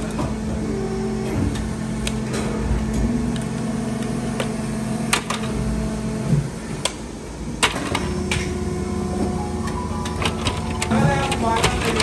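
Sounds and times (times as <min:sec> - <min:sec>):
factory machinery hum: 0:00.0 - 0:12.0.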